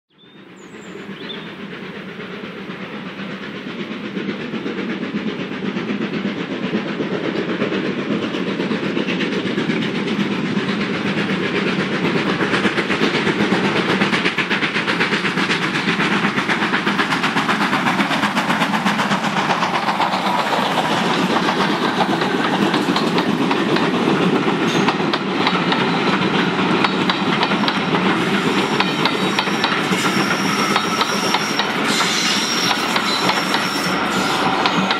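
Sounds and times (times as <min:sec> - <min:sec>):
steam locomotive exhaust beats: 0:00.2 - 0:34.9
train wheels clattering on rails: 0:00.3 - 0:34.9.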